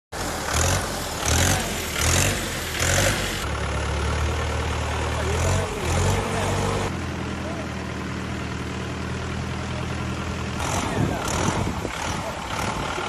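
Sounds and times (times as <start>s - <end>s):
tractor engine running: 0.1s - 13.0s.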